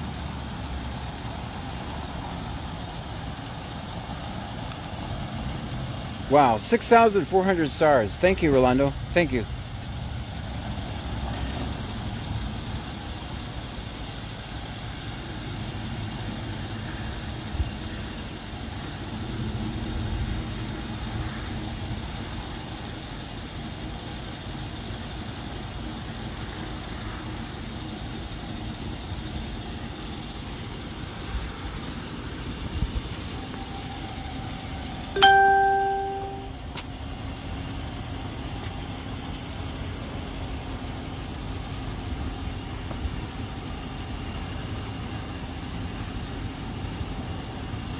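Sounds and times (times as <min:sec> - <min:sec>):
motor vehicle rumble: 0:08.7 - 0:47.9.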